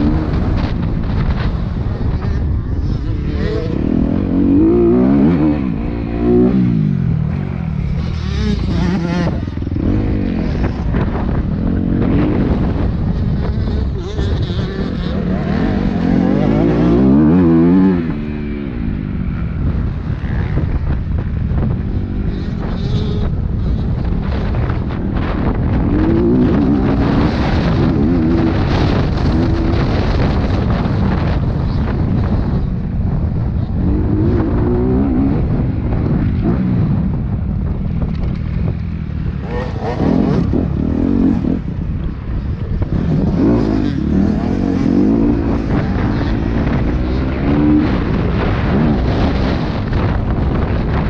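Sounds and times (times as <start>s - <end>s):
dirt bike engine revving: 0.0s - 32.4s, 38.3s - 51.0s
wind noise on microphone: 0.0s - 51.0s.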